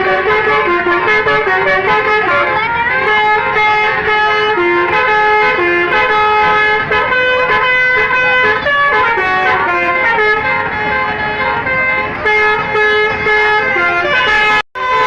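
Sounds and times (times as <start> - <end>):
multi-tone bus horn melody: 0.0 - 15.0.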